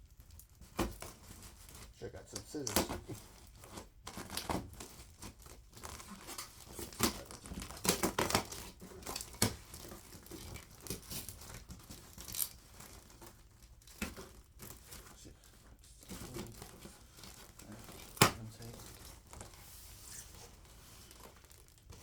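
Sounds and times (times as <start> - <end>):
packaging crinkling: 0.0 - 22.0
packing tape ripping: 0.3 - 22.0.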